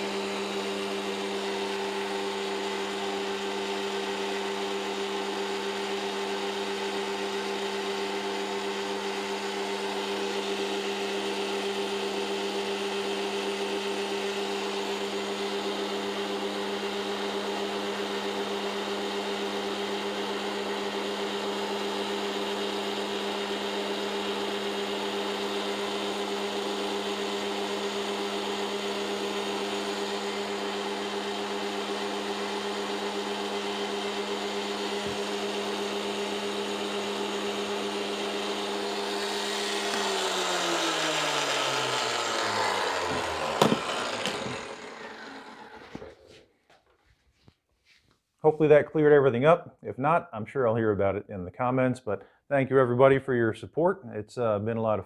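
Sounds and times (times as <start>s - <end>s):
thickness planer running: 0.0s - 46.5s.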